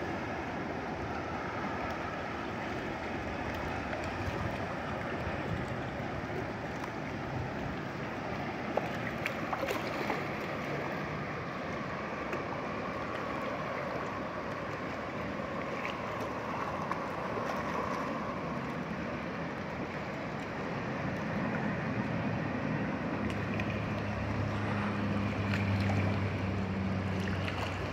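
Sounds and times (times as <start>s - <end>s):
river water rushing over rocks: 0.0s - 27.9s.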